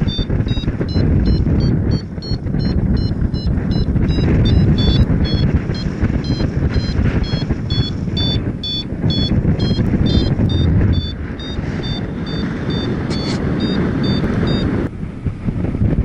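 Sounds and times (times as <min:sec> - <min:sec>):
variometer beeping: 0:00.0 - 0:14.9
wind buffeting microphone: 0:00.0 - 0:16.0.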